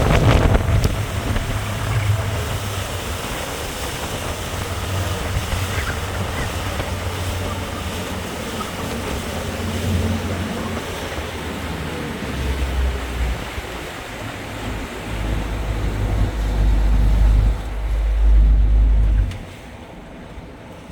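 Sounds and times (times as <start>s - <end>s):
wind buffeting microphone: 0.0s - 19.6s
rushing water: 0.0s - 20.9s.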